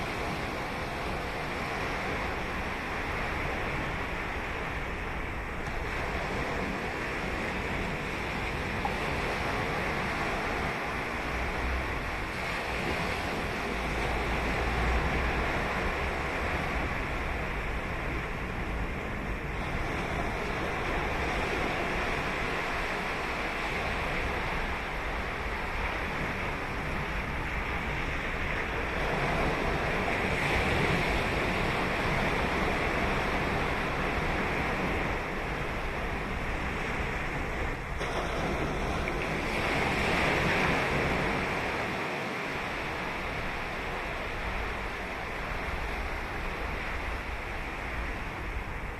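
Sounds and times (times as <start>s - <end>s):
ocean waves breaking on beach: 0.0s - 48.9s
wind on microphone: 0.0s - 48.9s.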